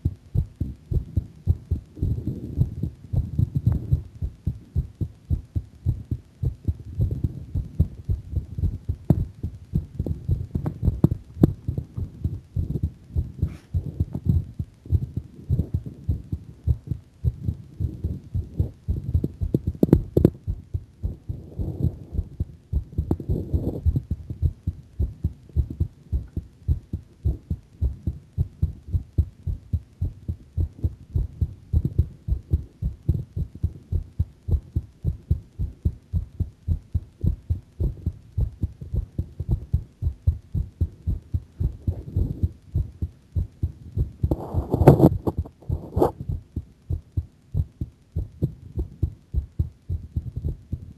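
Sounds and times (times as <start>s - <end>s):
heartbeat thuds: 0.0s - 50.9s.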